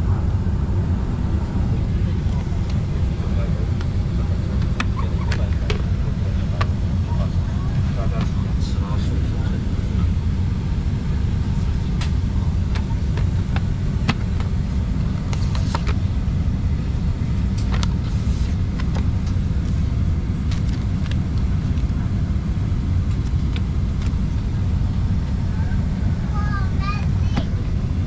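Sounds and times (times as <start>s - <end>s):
airliner cabin engine drone: 0.0s - 28.0s.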